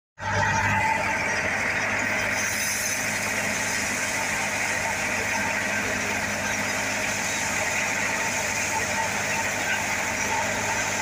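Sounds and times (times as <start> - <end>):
thresher machine hum: 0.2 - 11.0.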